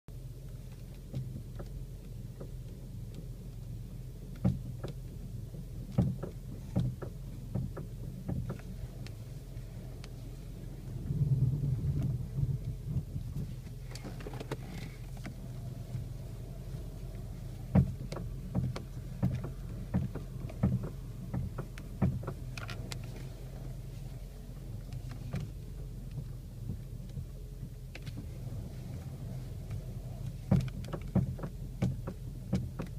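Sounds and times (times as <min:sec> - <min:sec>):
steady low hum: 0:00.1 - 0:32.9
car steering knocking: 0:00.9 - 0:32.9.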